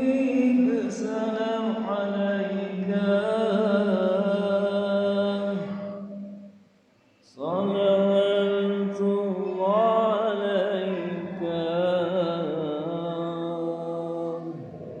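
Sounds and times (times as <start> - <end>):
man chanting: 0.0 - 6.2, 7.3 - 15.0.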